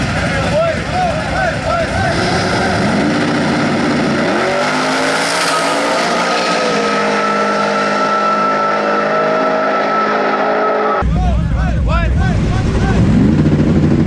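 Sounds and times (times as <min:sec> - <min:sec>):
drag cars accelerating hard: 0:00.0 - 0:11.0, 0:12.4 - 0:14.0.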